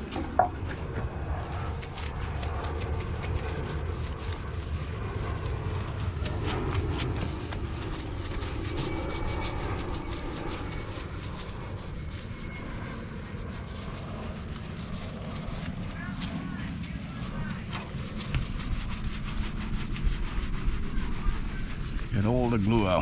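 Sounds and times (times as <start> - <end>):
sponge scrubbing metal: 1.4 - 23.0.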